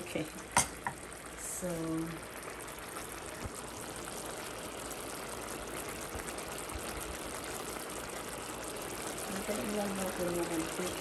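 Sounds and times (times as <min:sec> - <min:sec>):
sauce sizzling and bubbling: 0:00.0 - 0:11.0.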